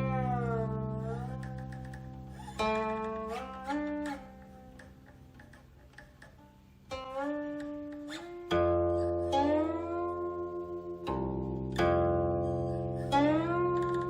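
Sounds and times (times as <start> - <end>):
zither plucked notes sliding: 0.0 - 14.0.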